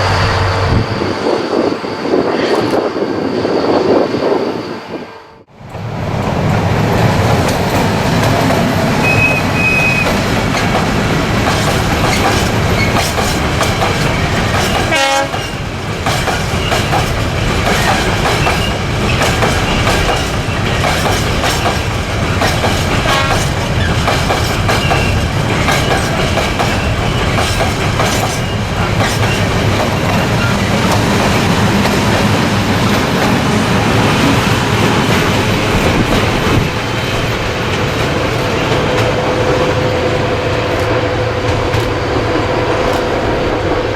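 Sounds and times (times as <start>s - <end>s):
train wheels clacking on rails: 5.7s - 43.9s.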